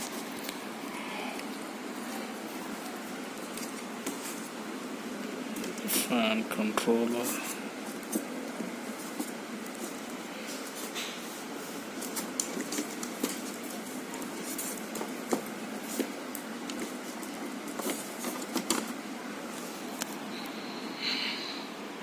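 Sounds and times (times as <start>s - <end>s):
refrigerator fan whirring: 0.0s - 22.0s.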